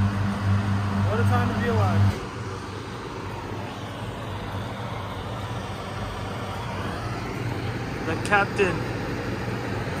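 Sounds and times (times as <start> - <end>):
propane burner firing: 0.0 - 10.0.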